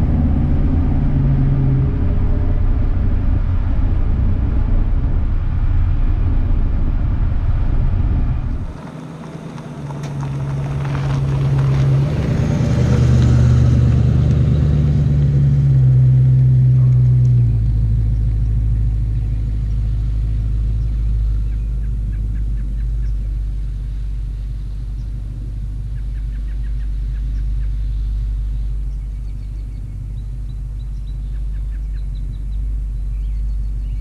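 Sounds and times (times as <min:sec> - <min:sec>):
car engine driving past: 0:00.0 - 0:34.0.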